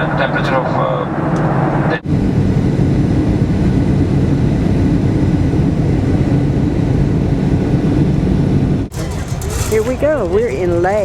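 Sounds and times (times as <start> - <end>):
jet engines droning in cabin: 0.0 - 9.3.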